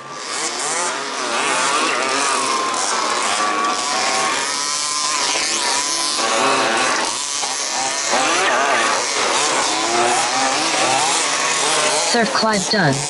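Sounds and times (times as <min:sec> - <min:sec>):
rc buggy engines racing: 0:00.0 - 0:13.0.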